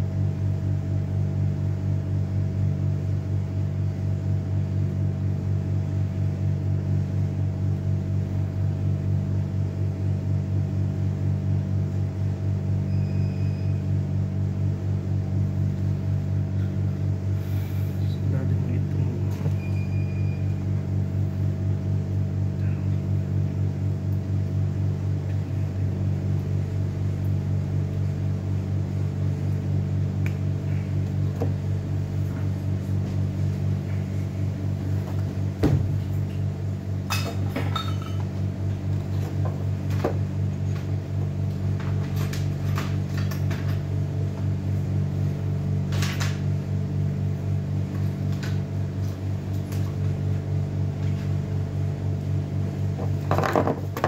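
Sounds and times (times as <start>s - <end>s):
pulsing machine hum: 0.0s - 54.0s.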